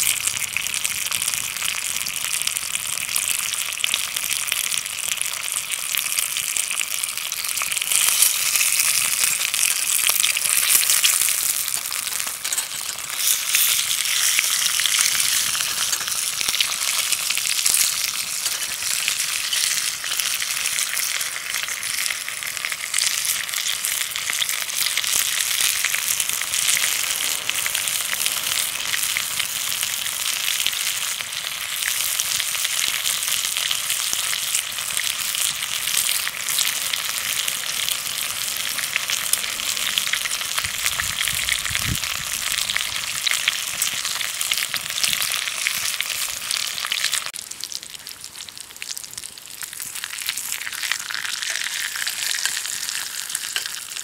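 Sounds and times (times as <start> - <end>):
food sizzling in a skillet: 0.0 - 54.0.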